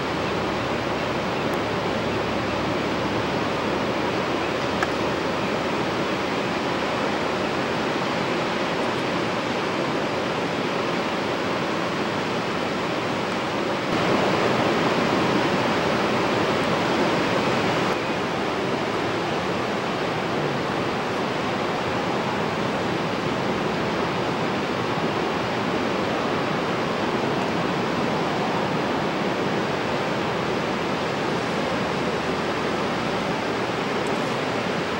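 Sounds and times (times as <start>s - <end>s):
ocean surf breaking on rocks: 0.0s - 34.9s.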